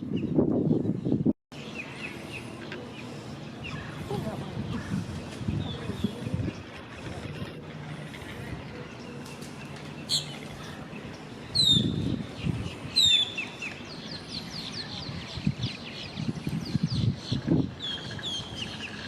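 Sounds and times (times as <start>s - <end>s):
wetland birds calling: 1.6s - 19.0s.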